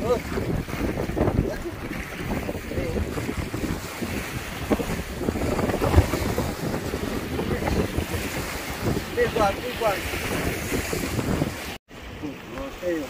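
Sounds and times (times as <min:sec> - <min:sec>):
water lapping on rocks: 0:00.0 - 0:13.0
wind buffeting microphone: 0:00.0 - 0:13.0.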